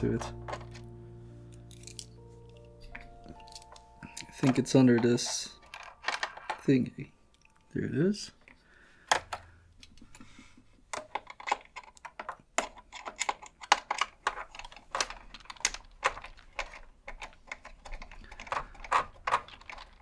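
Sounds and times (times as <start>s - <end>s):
small parts clicking and tapping: 0.0s - 20.0s.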